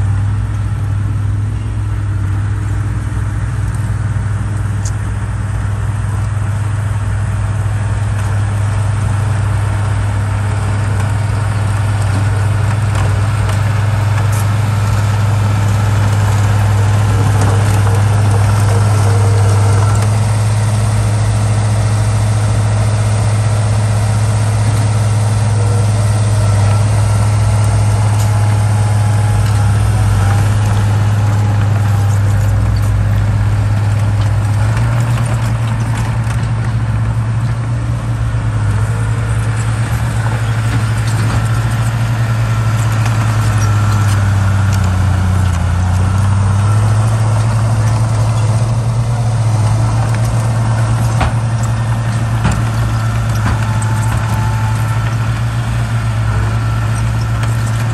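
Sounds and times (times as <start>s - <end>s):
diesel engines droning: 0.0s - 57.9s.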